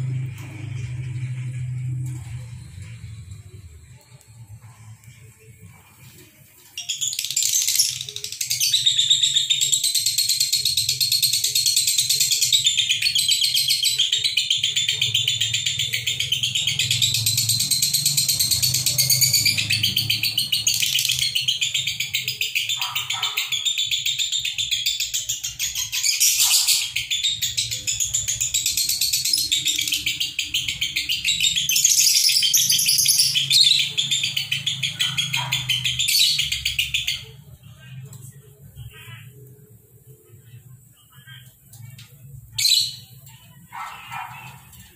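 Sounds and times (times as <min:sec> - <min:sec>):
lovebirds chattering and trilling: 0:04.7 - 0:44.9.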